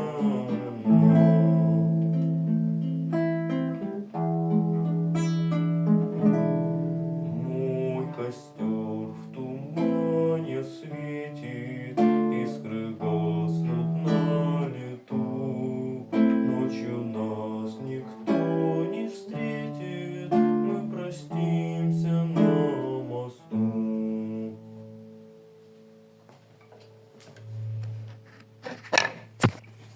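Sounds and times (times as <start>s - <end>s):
acoustic guitar chords: 0.0s - 29.9s.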